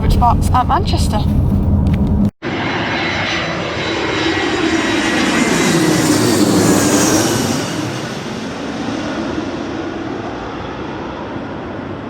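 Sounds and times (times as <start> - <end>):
jet airliner passing overhead: 1.2 - 12.0.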